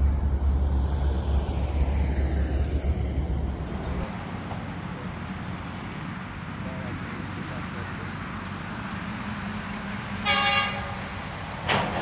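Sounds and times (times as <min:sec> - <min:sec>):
outdoor background noise: 0:00.0 - 0:12.0
passing train rumble: 0:00.0 - 0:12.0.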